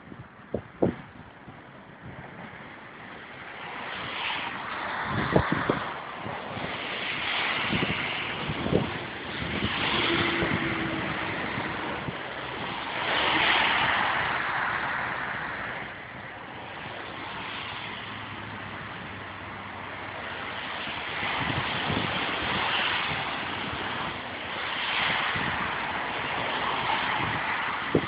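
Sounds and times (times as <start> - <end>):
traffic hissing on wet road: 0.0 - 28.0
wind and rain on microphone: 0.0 - 28.0.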